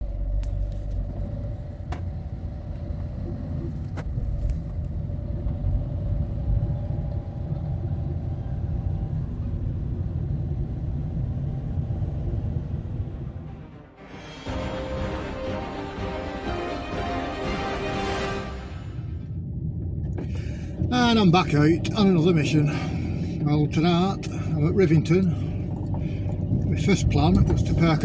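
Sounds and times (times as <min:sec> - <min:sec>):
van engine and road rumble: 0:00.0 - 0:14.0, 0:19.1 - 0:28.0.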